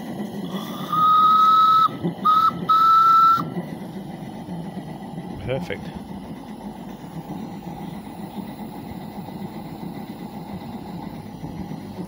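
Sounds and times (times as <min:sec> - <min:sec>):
gas burner roaring: 0:00.0 - 0:12.0
model steam engine working: 0:00.0 - 0:12.0.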